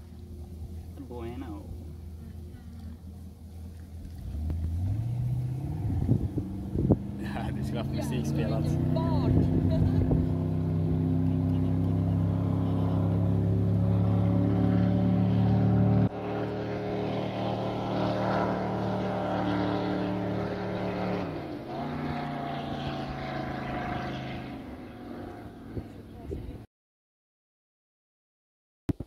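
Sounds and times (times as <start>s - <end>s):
powerboat engine drone: 0.0s - 26.6s.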